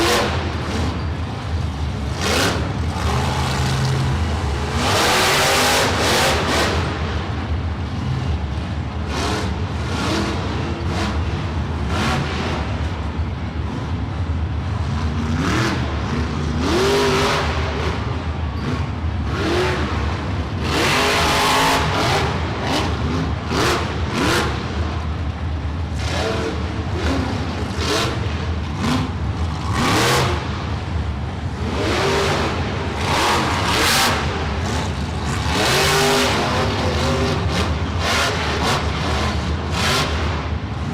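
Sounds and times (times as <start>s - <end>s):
monster truck engine revving: 0.0s - 40.9s.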